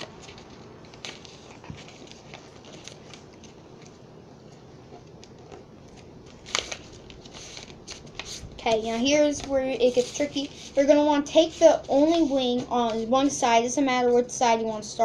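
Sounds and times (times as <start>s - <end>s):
paper rustling and crackling: 0.0s - 13.3s.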